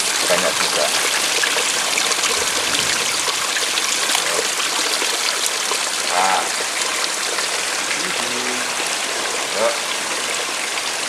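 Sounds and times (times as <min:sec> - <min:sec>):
running and trickling water: 0:00.0 - 0:11.0.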